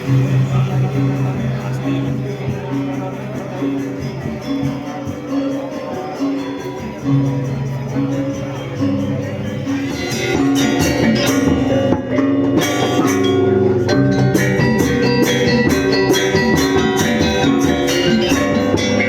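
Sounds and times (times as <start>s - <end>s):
band with guitar and drums: 0.0s - 19.0s.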